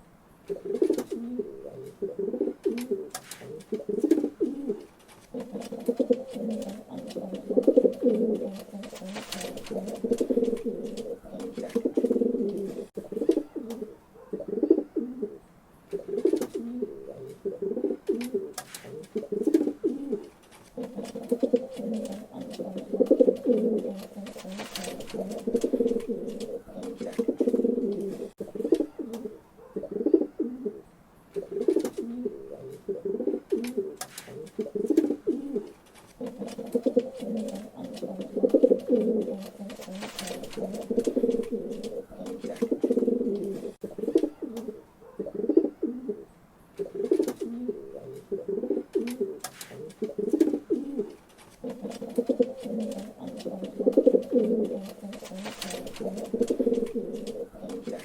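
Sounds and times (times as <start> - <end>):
pigeons cooing: 0.5 - 58.0.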